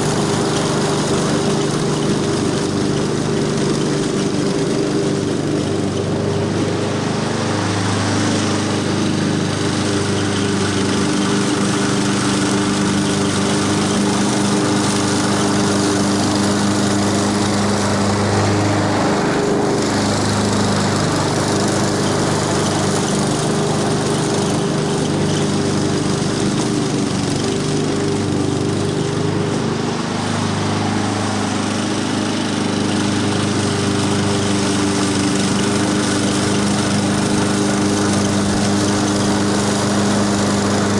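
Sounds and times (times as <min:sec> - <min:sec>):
lawn mower running: 0:00.0 - 0:40.9.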